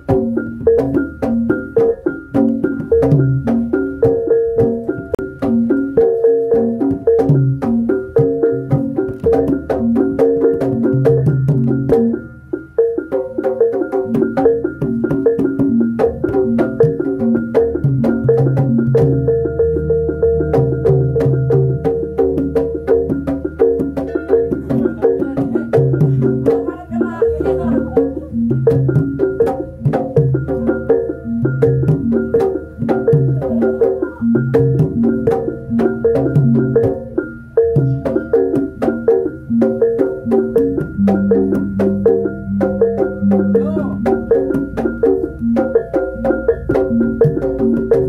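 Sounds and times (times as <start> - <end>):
drums: 0.0 - 48.0
gamelan music: 0.0 - 48.0
keyed metallophones: 0.0 - 48.0.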